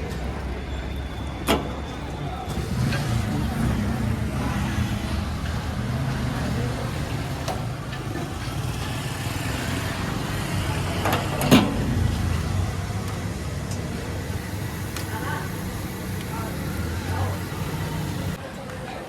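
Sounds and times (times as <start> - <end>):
diesel engine rumbling: 0.0 - 18.6.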